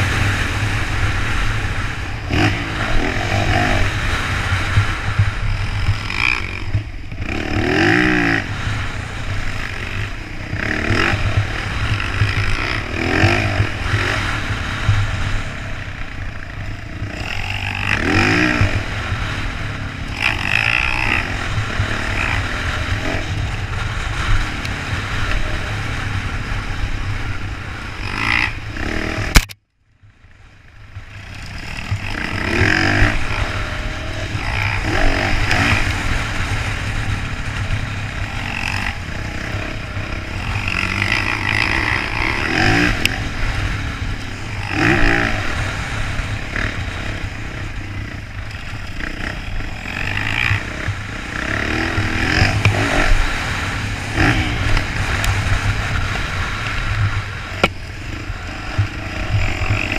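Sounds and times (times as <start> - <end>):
dirt bike engine revving: 0.0 - 29.6, 30.4 - 59.9
wind rumble on microphone: 0.0 - 59.9.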